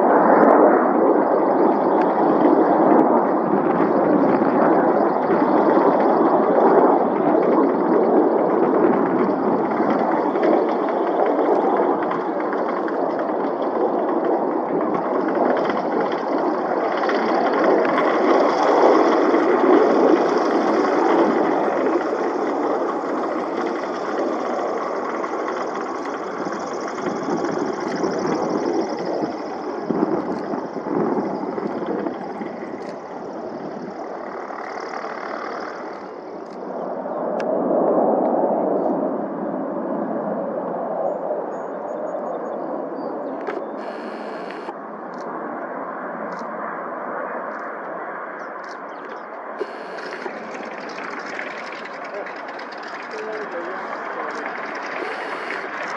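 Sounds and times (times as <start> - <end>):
aircraft engine roaring: 0.0 - 55.9.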